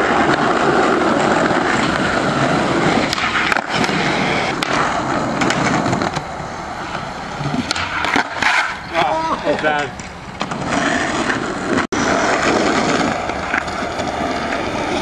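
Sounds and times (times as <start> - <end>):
skateboard wheels rolling on pavement: 0.0 - 15.0.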